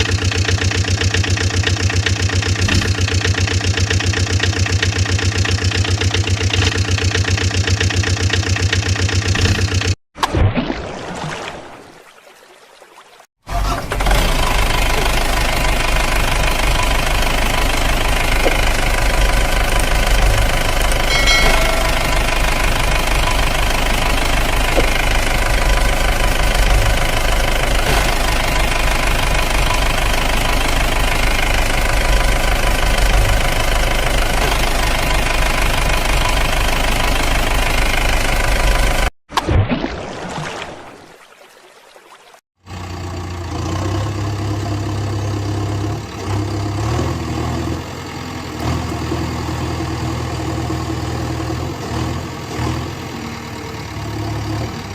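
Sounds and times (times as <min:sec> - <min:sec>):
diesel tractor engine chugging: 0:00.0 - 0:10.0, 0:13.5 - 0:39.1, 0:42.6 - 0:54.9.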